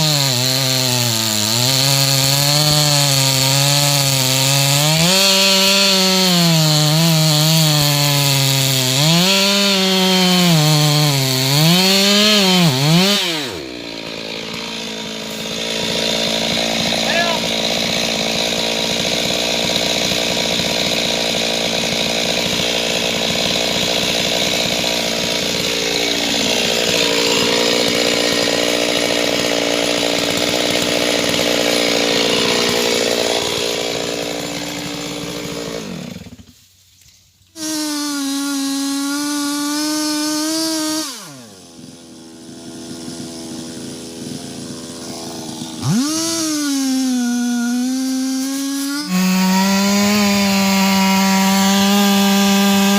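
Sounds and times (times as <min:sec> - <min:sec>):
chainsaw revving: 0:00.0 - 0:36.6, 0:37.5 - 0:52.9
chainsaw cutting wood: 0:00.0 - 0:52.9.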